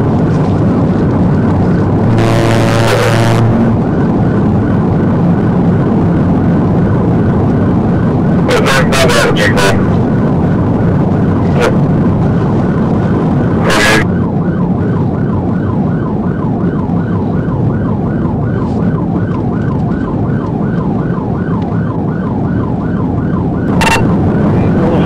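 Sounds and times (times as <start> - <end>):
engine and road rumble: 0.0 - 25.0
police siren yelping: 0.0 - 25.0.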